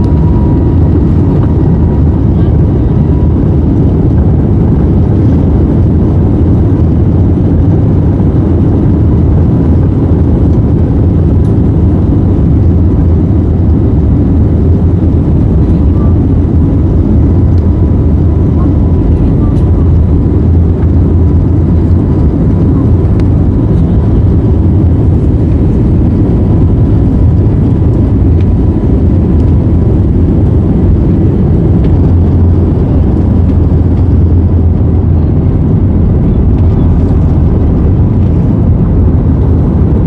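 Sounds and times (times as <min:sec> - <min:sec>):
jet engine and airflow rumble: 0:00.0 - 0:40.0.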